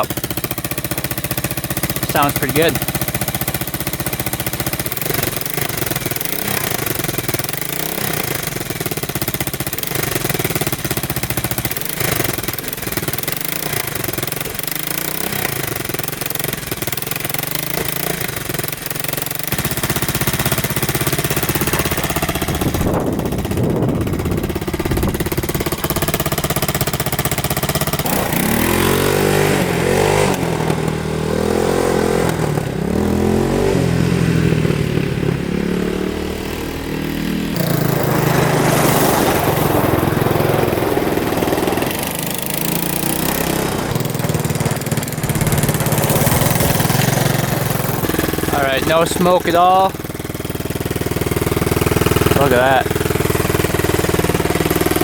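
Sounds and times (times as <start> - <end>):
three-wheeler engine running: 0.0 - 55.0.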